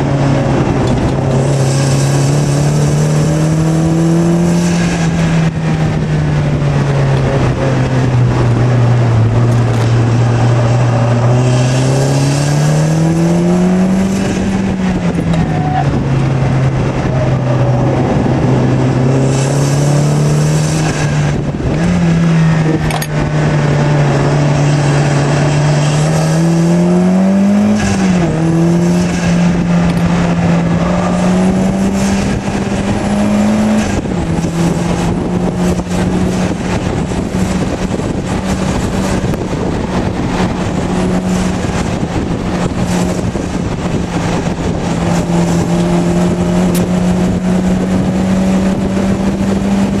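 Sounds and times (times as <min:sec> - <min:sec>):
car engine revving with upshifts: 0:00.0 - 0:50.0
wind rushing: 0:00.0 - 0:50.0.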